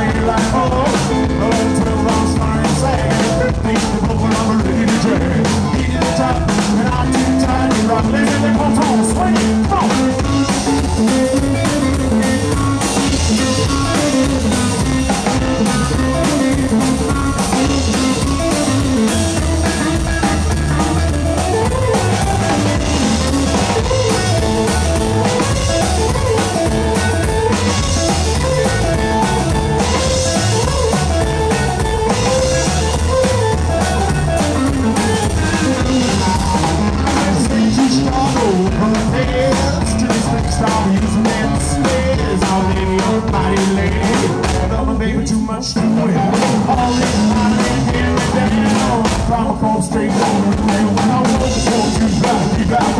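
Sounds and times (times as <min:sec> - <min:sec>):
drum kit steady beat: 0:00.0 - 0:44.9, 0:45.8 - 0:52.9
twanging electric guitar: 0:00.0 - 0:52.9
upright bass: 0:00.0 - 0:52.9.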